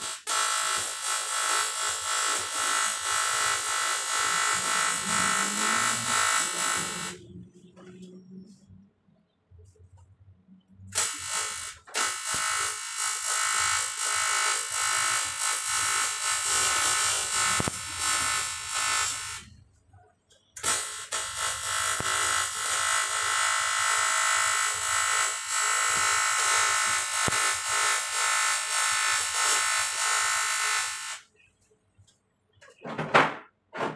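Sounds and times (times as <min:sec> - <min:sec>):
welding arc buzzing: 0:00.0 - 0:07.3, 0:10.8 - 0:31.4.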